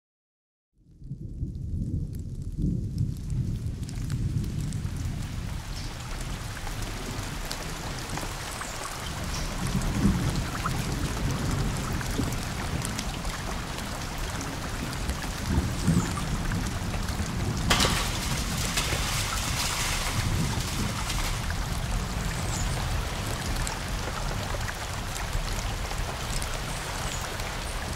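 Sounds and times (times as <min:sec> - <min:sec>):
steady rain on forest: 0:00.9 - 0:27.9
low rolling thunder: 0:01.0 - 0:26.8.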